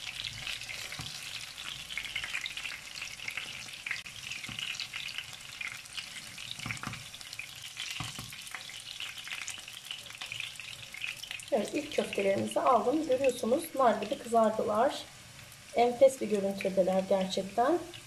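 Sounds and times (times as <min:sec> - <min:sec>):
meatballs sizzling in oil: 0:00.0 - 0:18.0.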